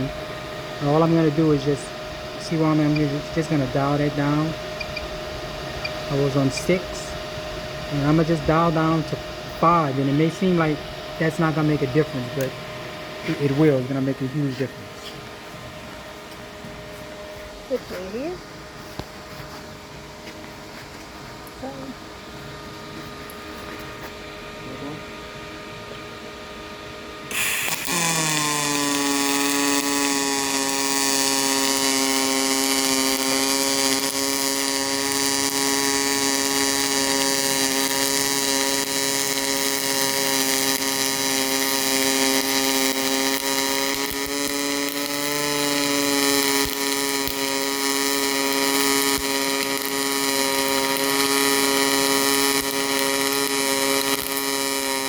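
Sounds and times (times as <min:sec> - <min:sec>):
welder arc pulsing buzz: 0:00.0 - 0:55.0.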